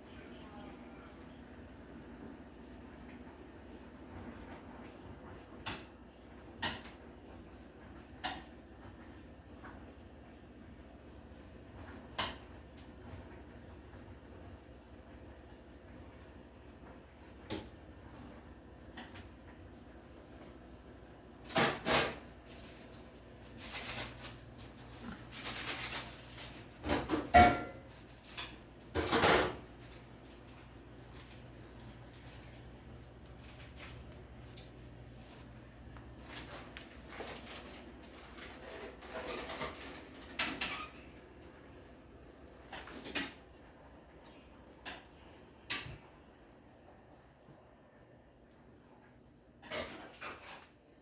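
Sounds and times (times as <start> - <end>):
low steady hum: 0.0 - 49.7.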